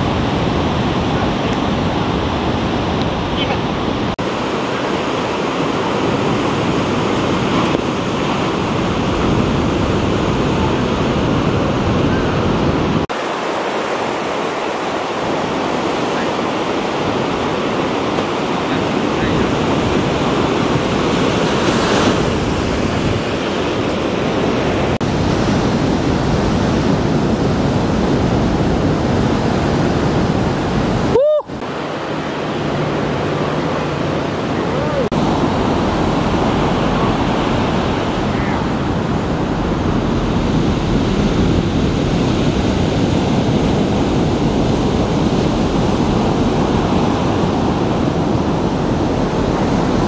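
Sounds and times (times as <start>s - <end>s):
waves breaking: 0.0s - 50.0s.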